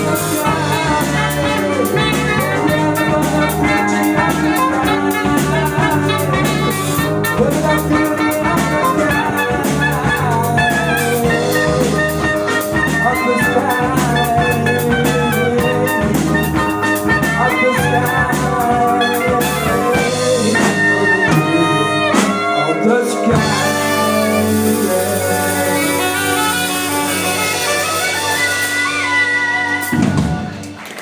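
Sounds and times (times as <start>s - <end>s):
drum kit beat: 0.0s - 31.0s
jazz quartet playing: 0.0s - 31.0s.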